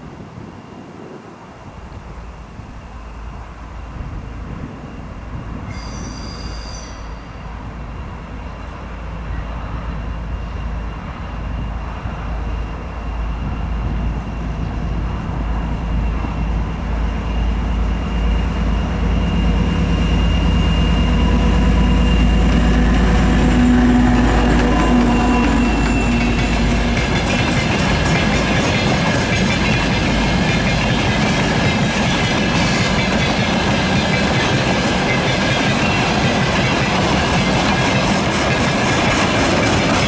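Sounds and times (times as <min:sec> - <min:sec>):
diesel locomotive engine running: 0:07.5 - 0:40.0.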